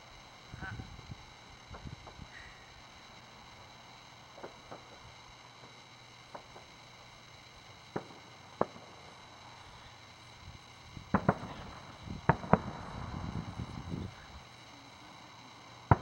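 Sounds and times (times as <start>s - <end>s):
firework rumble: 0.0s - 16.0s
firework shells bursting: 0.0s - 16.0s.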